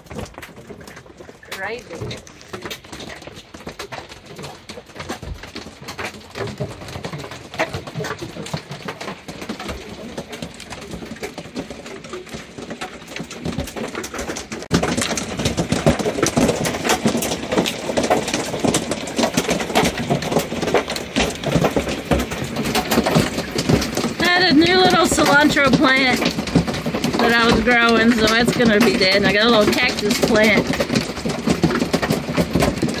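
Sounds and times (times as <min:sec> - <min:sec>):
hailstones hitting a roof: 0:00.0 - 0:33.0.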